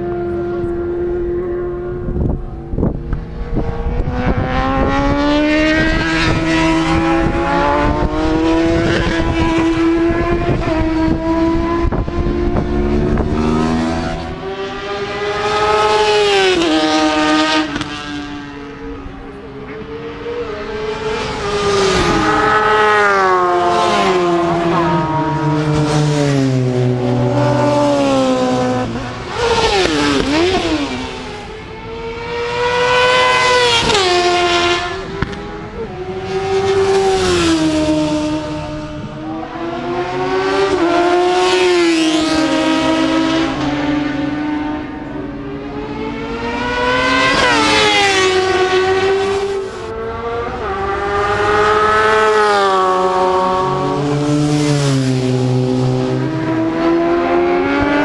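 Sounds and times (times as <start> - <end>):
motorcycles passing at high revs: 0.0 - 58.0.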